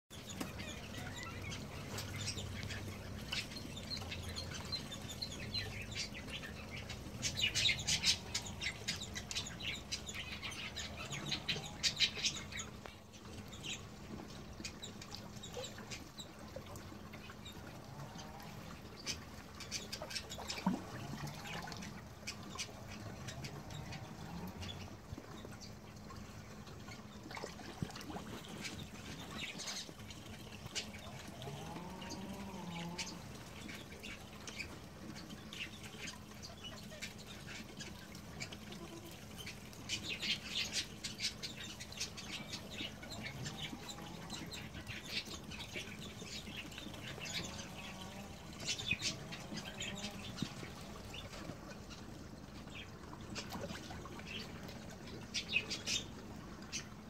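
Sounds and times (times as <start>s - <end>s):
birds chirping and twittering: 0.1s - 57.0s.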